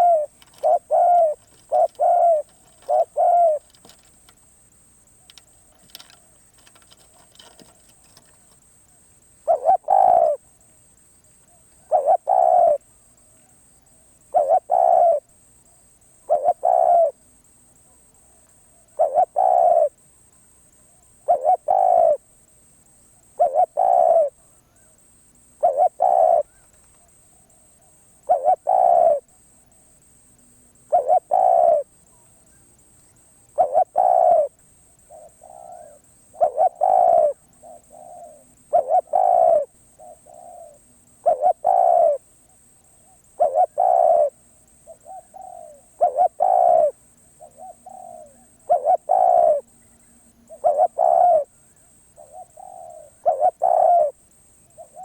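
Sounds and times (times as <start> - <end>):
dove cooing: 0.0 - 4.4, 5.0 - 10.6, 11.4 - 20.0, 20.6 - 22.3, 23.2 - 29.4, 30.8 - 55.0.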